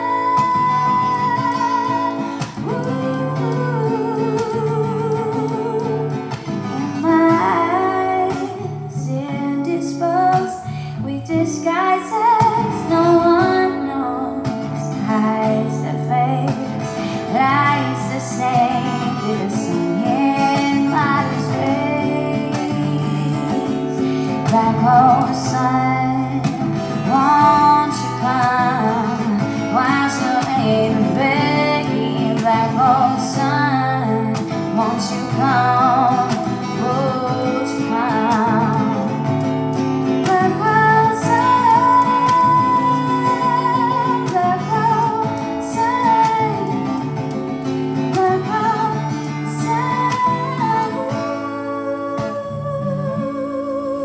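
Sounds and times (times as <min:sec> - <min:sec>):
acoustic guitar chords: 0:00.0 - 0:54.0
person singing: 0:00.0 - 0:54.0.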